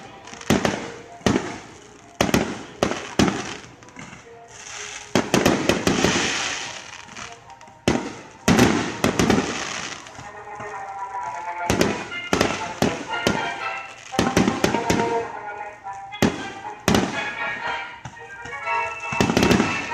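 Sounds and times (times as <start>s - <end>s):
firework bangs: 0.0s - 15.4s, 16.0s - 19.9s
firework hissing crackle: 0.0s - 19.9s.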